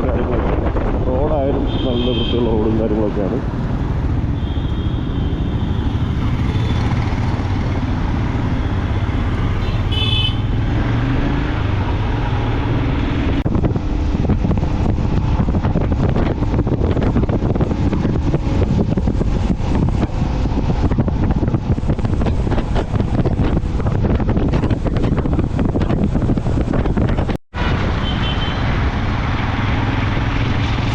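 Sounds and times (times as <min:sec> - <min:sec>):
wind buffeting on microphone: 0:00.0 - 0:04.4, 0:05.3 - 0:30.9
road traffic rumble: 0:00.0 - 0:30.9.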